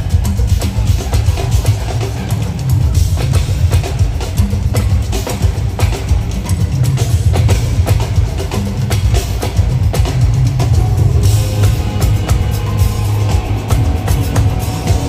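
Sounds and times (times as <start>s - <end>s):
loud concert music: 0.0s - 15.0s.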